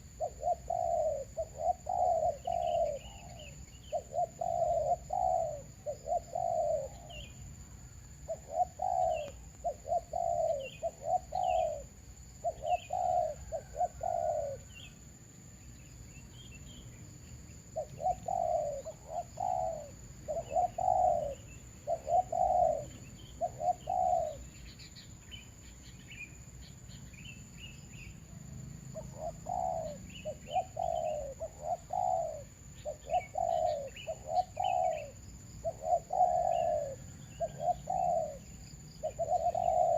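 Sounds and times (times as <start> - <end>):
doves cooing: 0.0 - 7.4, 8.1 - 15.0, 17.8 - 24.8, 28.9 - 39.9
small birds chirping: 0.0 - 39.9.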